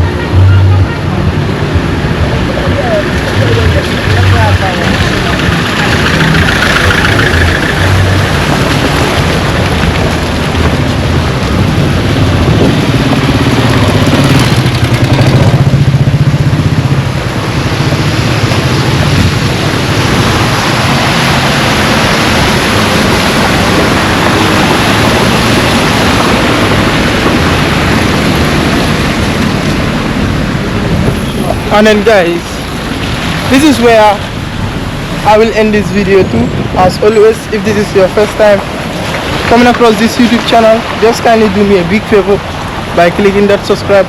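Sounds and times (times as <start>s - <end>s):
loud steady rushing noise: 0.0s - 44.0s
vehicle engines running: 0.0s - 44.0s.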